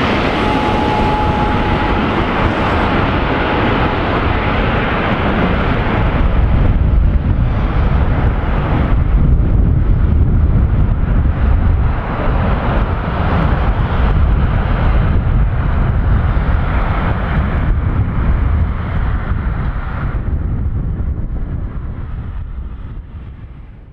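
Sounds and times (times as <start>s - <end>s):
jet engines rumbling: 0.0s - 23.8s.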